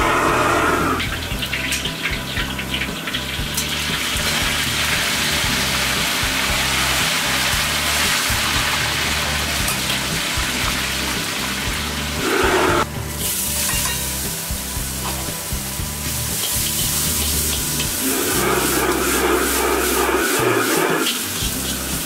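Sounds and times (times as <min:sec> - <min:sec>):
hot oil bubbling and hissing: 0:00.0 - 0:22.0
wok burner roaring: 0:00.0 - 0:22.0.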